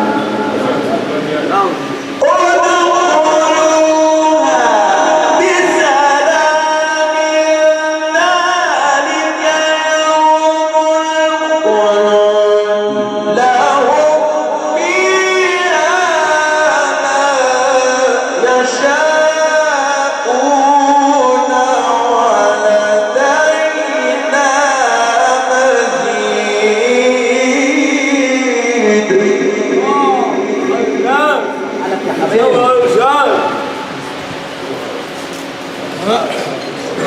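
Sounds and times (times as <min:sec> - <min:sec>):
man chanting melodic recitation: 0:00.0 - 0:37.0.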